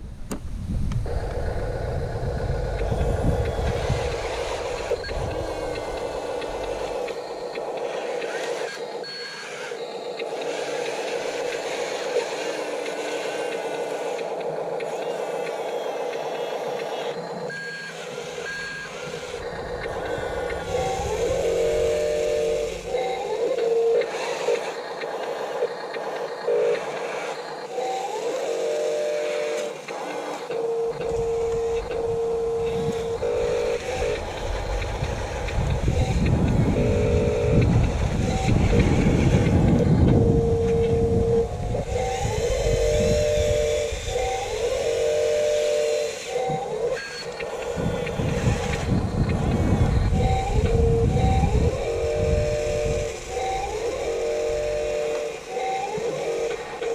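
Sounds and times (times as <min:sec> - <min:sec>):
electric motor and gear whine: 0:00.0 - 0:56.9
short stepped whining tones: 0:00.3 - 0:56.9.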